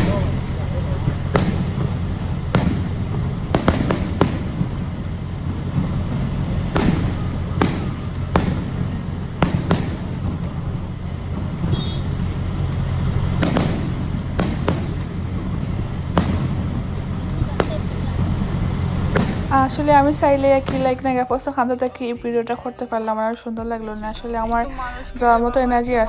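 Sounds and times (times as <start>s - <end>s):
sharp pops: 0.0s - 21.6s
low rumble: 0.0s - 21.9s, 23.5s - 26.0s.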